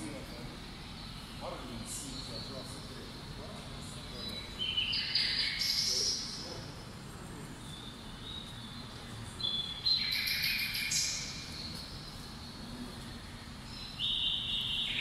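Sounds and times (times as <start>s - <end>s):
low background hum: 0.0s - 15.0s
small birds chirping: 0.0s - 15.0s.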